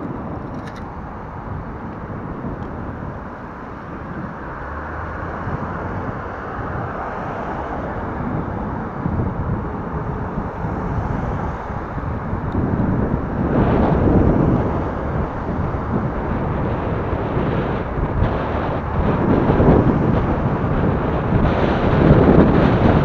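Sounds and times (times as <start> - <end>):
bike road noise: 0.0 - 23.0
car traffic: 0.0 - 23.0
wind on the microphone: 0.0 - 23.0.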